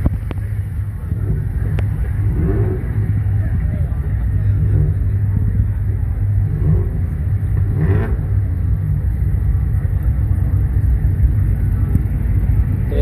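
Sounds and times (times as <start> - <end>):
car exhaust rumble: 0.0 - 13.0.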